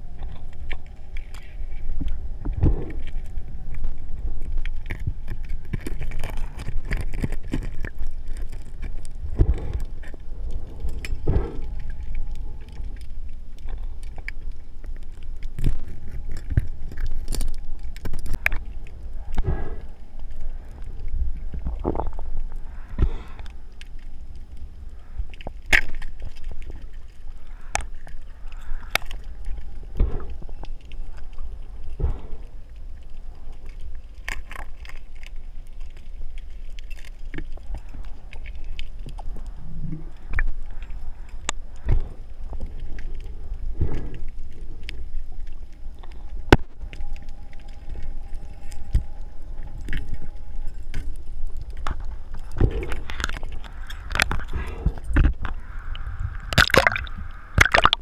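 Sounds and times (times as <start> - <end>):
muffled underwater rumble: 0.0 - 58.0.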